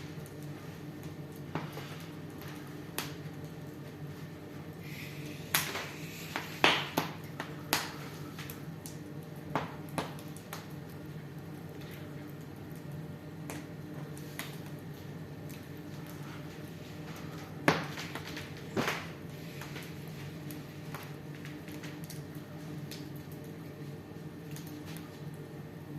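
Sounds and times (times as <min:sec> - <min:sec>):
steady low hum: 0:00.0 - 0:25.9
wood fire crackling and popping: 0:00.0 - 0:25.9.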